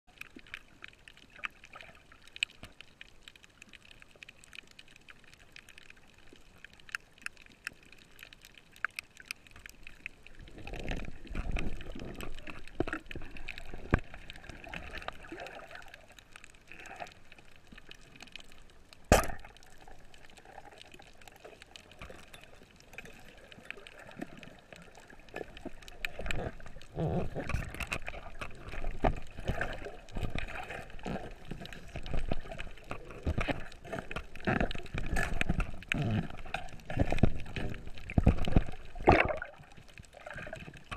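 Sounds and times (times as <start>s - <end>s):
water rushing and bubbling: 0.1s - 40.9s.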